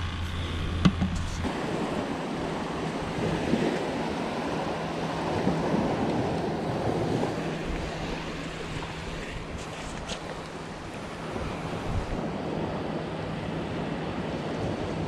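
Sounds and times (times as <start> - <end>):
wind on microphone: 0.5 - 15.0
small waves washing on beach: 0.9 - 15.0.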